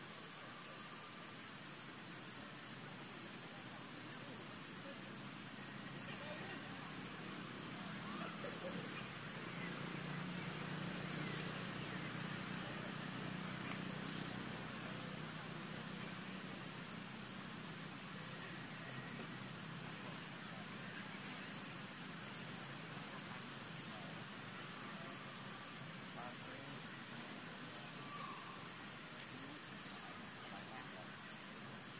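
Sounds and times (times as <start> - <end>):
faint outdoor hiss: 0.0 - 31.9
insects droning: 0.0 - 31.9.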